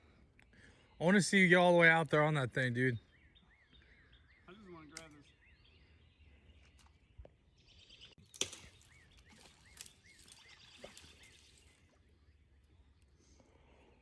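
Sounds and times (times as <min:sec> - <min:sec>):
bird chirping: 0:00.4 - 0:14.0.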